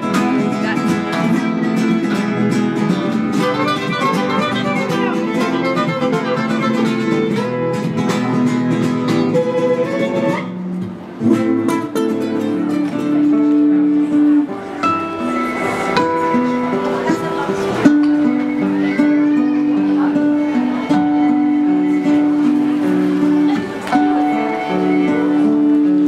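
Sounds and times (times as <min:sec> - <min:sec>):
acoustic guitars playing: 0:00.0 - 0:26.0.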